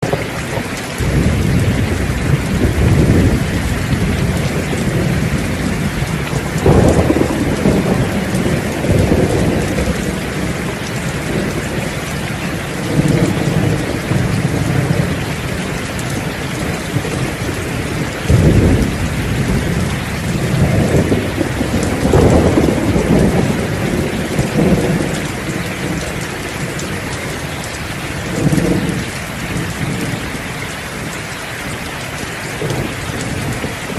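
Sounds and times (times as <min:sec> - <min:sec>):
heavy rain: 0:00.0 - 0:33.9
thunder rolling: 0:00.0 - 0:33.9.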